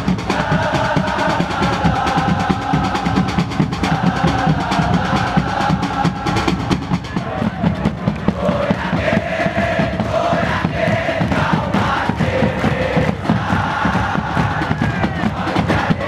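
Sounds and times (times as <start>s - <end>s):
crowd singing a chant: 0.0s - 16.0s
drums beating fast: 0.0s - 16.0s.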